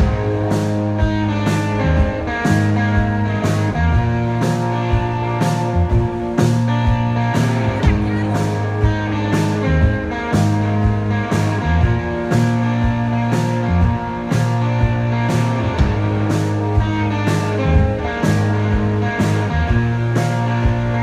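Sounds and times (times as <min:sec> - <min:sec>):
rock guitars: 0:00.0 - 0:21.0
steady drum beat: 0:00.0 - 0:21.0.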